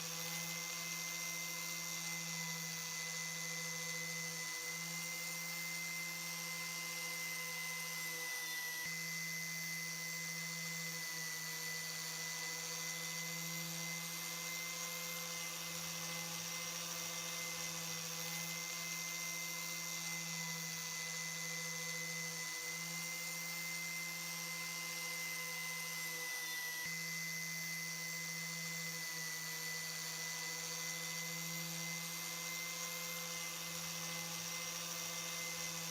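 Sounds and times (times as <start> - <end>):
small power tool motor running: 0.0 - 35.9.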